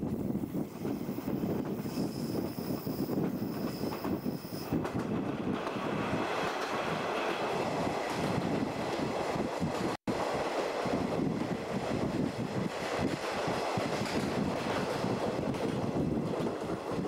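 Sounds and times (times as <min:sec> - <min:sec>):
train rushing through tunnel: 0:00.0 - 0:17.0
train wheels on rail: 0:00.0 - 0:17.0.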